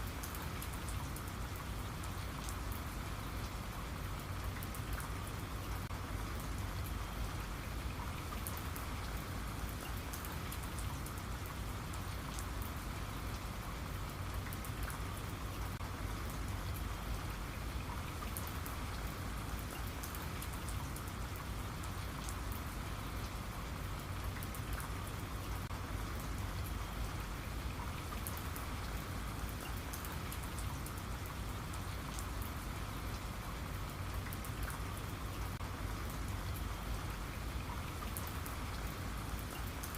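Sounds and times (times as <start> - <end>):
raindrops pattering: 0.0 - 39.9.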